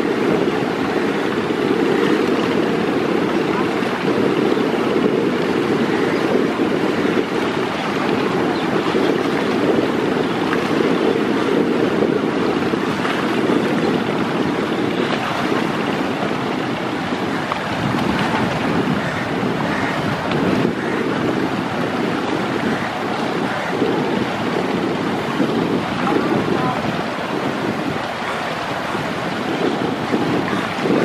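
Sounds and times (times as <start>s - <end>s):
choppy river water rushing: 0.0s - 31.0s
wind buffeting microphone: 0.0s - 31.0s.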